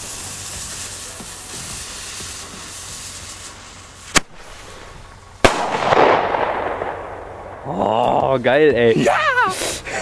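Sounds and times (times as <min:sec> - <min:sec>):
firecracker fuse hissing: 0:00.0 - 0:07.3, 0:08.4 - 0:10.0
firecracker bang: 0:00.0 - 0:08.2.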